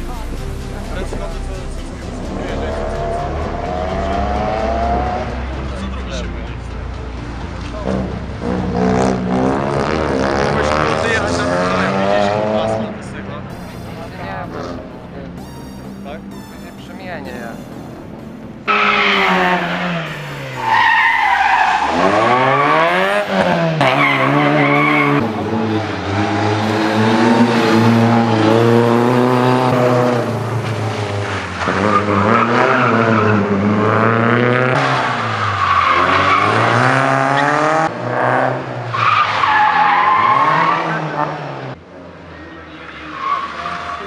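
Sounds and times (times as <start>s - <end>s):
rally car engines revving: 0.0s - 15.4s, 16.8s - 44.0s.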